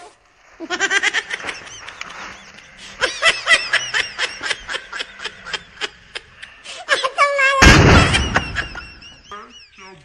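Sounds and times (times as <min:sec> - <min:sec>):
person laughing in bursts: 0:00.6 - 0:09.8.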